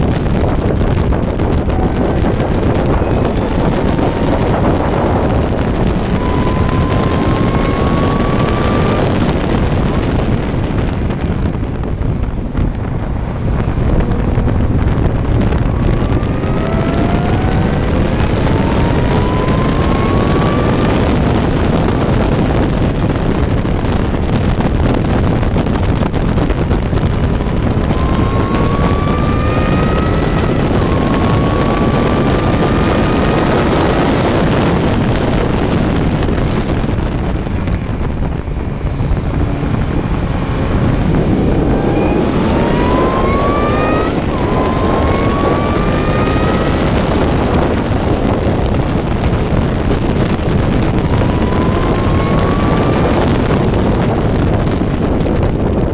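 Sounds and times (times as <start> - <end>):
race engine accelerating: 0.0 - 55.9
wind rush: 0.0 - 55.9.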